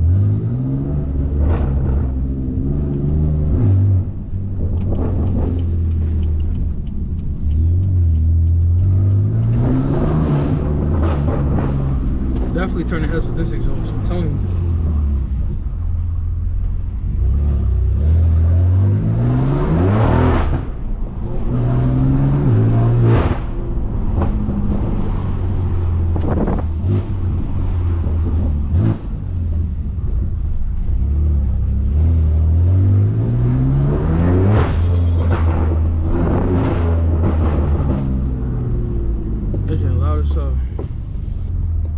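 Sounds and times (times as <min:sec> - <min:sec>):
car engine accelerating hard: 0:00.0 - 0:41.9
exhaust cracks: 0:01.0 - 0:17.3, 0:19.0 - 0:32.1, 0:34.0 - 0:41.9.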